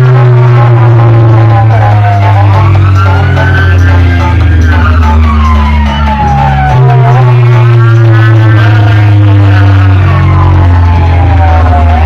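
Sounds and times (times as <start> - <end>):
deep bass drone: 0.0 - 12.0
loud electronic music: 0.0 - 12.0
sliding electronic tone: 0.0 - 12.0.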